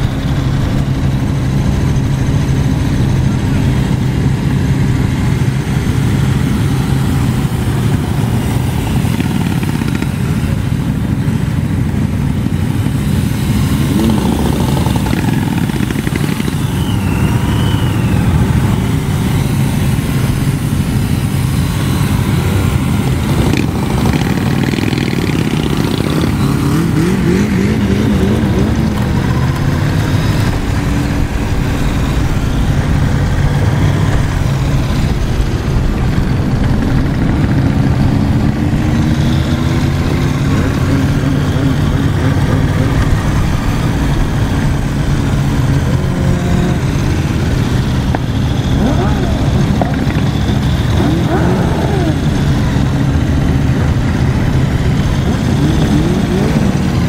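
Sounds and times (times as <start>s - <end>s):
motorcycle engine revving: 0.0s - 57.0s
motorcycle engine running steadily: 0.0s - 57.0s
rumble of many motorcycles: 0.0s - 57.0s.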